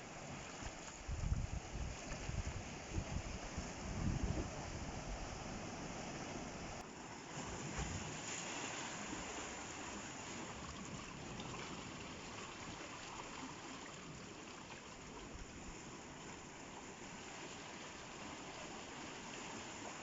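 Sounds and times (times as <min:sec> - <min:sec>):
surf washing around rocks: 0:00.0 - 0:20.0.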